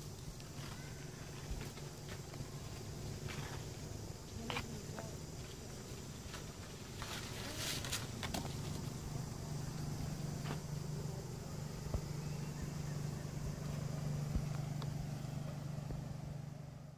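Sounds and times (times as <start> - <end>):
scooter engine running: 0.0 - 16.9.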